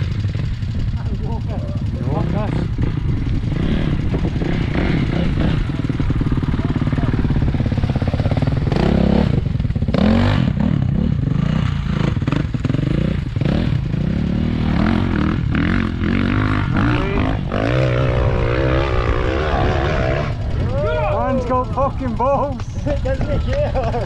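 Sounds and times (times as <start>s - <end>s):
dirt bike engines running: 0.0s - 24.0s
dirt bike idling and revving: 0.0s - 24.0s.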